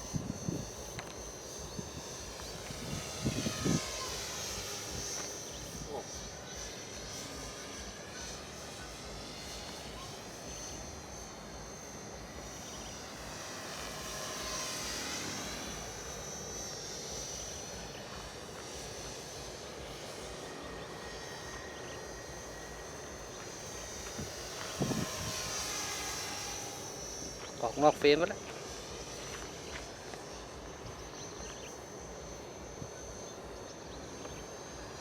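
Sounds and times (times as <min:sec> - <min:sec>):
model airplane motor whine: 0:00.0 - 0:35.0.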